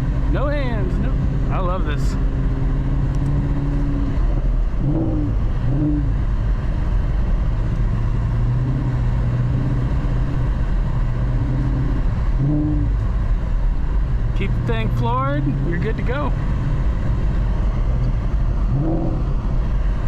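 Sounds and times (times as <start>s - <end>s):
car engine under throttle: 0.0s - 20.0s.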